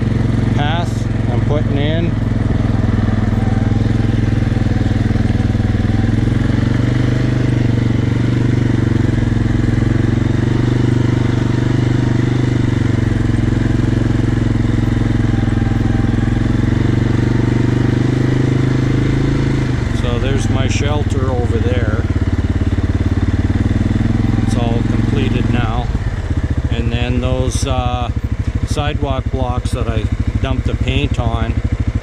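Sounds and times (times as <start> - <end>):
vehicle engine low drone: 0.0 - 32.0.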